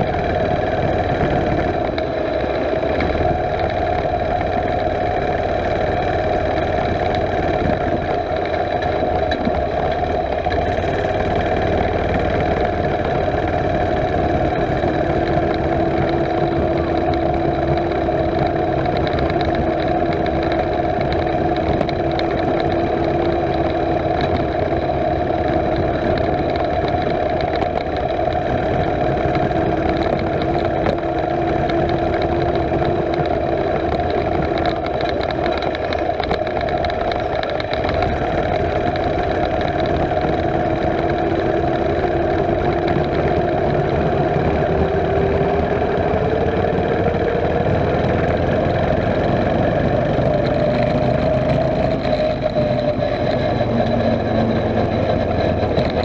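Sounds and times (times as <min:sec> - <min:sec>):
lower engine tone: 0:00.0 - 0:56.0
small engine running: 0:00.0 - 0:56.0.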